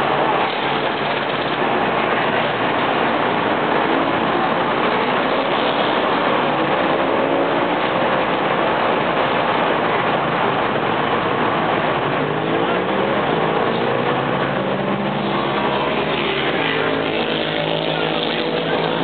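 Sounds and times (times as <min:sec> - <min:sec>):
racing motorcycle engines: 0:00.0 - 0:19.0.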